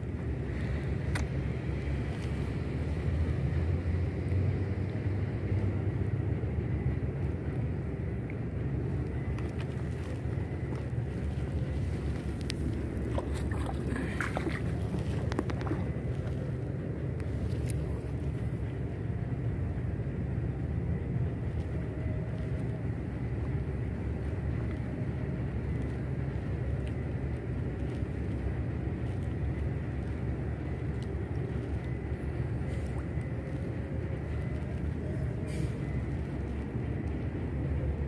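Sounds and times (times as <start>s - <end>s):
low rumble: 0.0s - 38.0s.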